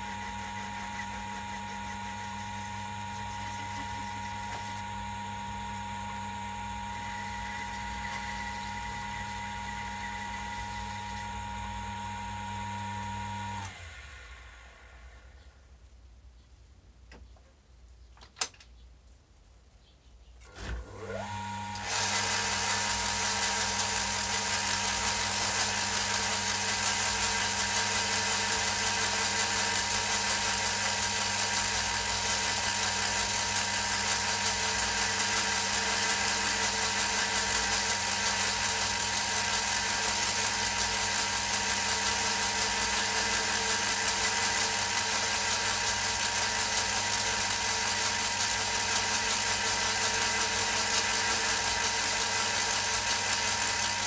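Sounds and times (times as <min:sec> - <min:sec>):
lathe running: 0:00.0 - 0:14.9, 0:20.8 - 0:54.0.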